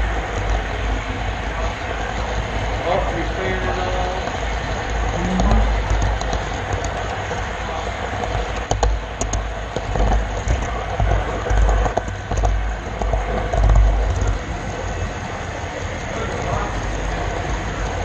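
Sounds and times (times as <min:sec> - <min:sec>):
model train rolling on track: 0:00.0 - 0:18.0.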